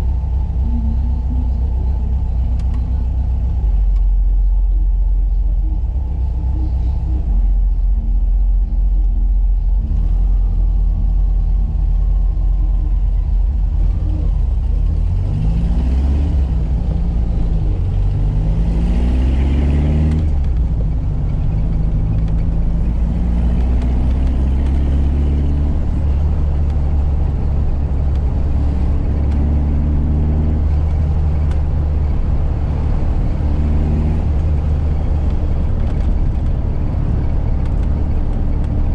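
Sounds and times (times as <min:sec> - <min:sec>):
car engine revving and cruising: 0:00.0 - 0:38.9.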